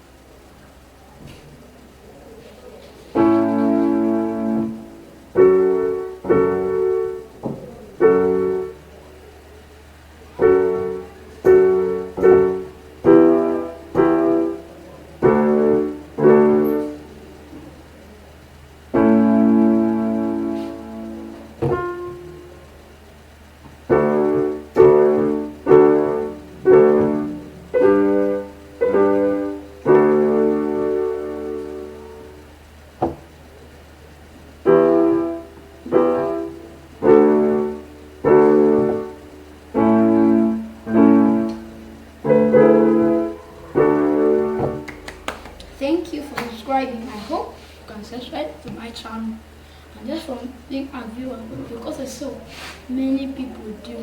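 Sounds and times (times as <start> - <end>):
keyboard playing piano chords: 0.0 - 46.9.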